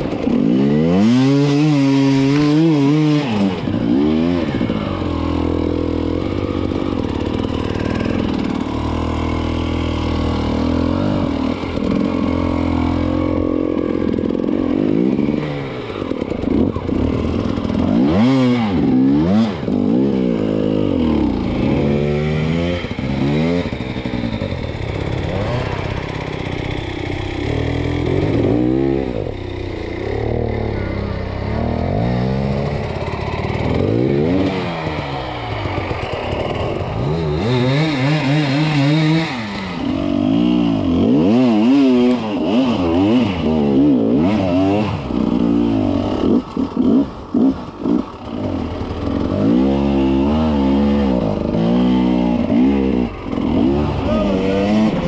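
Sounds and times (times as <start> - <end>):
dirt bike engines revving hard: 0.0 - 55.0.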